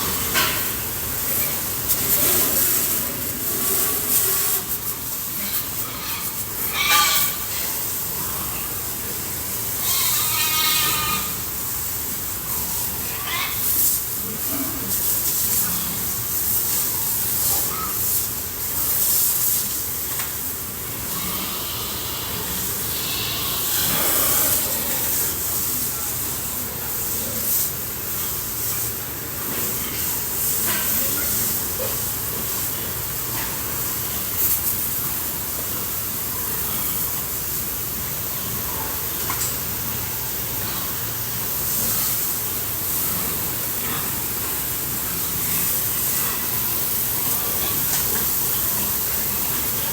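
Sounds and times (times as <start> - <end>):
water spraying from hose nozzle: 0.0 - 49.9.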